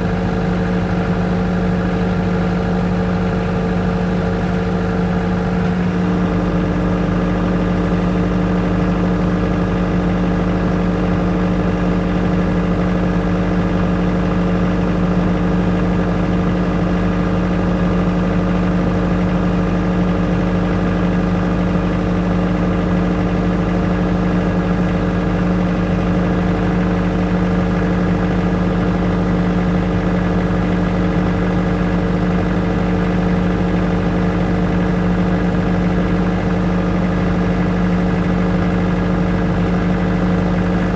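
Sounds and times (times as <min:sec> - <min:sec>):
generator humming: 0:00.0 - 0:40.9.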